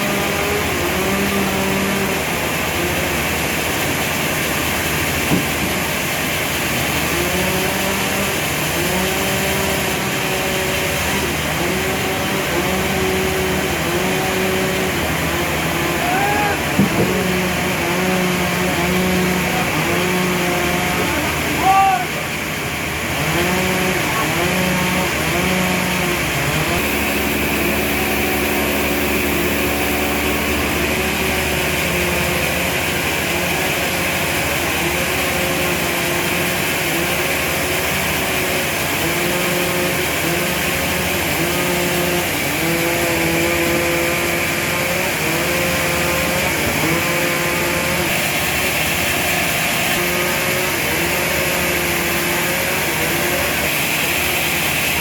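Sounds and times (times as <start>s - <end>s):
constant mechanical noise: 0.0s - 55.0s
saw pitch rising and falling: 0.0s - 55.0s.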